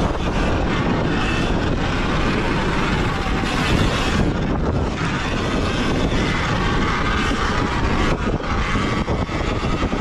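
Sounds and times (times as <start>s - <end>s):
faint high motor whine: 0.0s - 10.0s
low rumble from bumps: 0.0s - 10.0s
tyres on loose dirt: 0.0s - 10.0s
wind on microphone: 0.0s - 10.0s.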